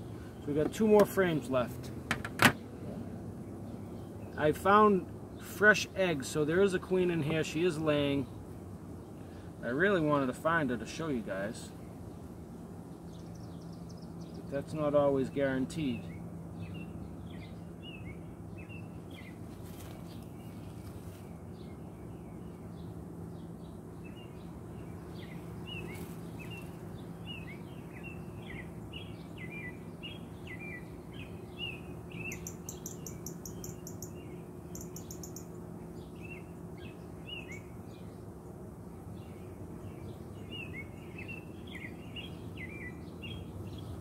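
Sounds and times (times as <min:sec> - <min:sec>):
honey bees humming: 0:00.0 - 0:44.0
small birds chirping: 0:00.0 - 0:44.0.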